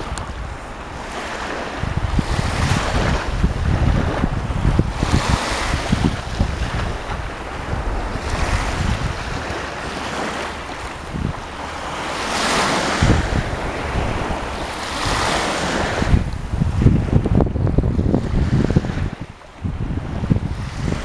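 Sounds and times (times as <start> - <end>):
waves washing onto shore: 0.0 - 21.0
wind gusting on microphone: 0.0 - 21.0.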